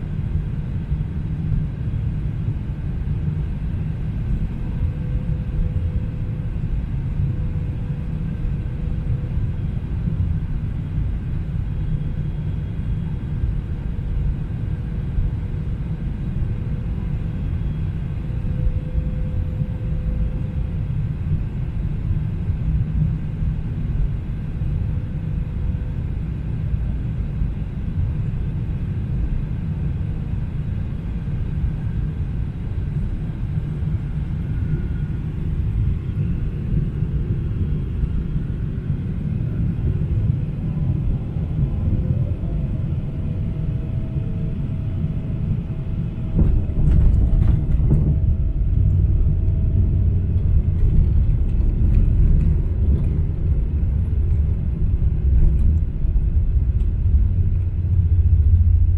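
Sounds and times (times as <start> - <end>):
aircraft cabin rumble: 0.0 - 58.9.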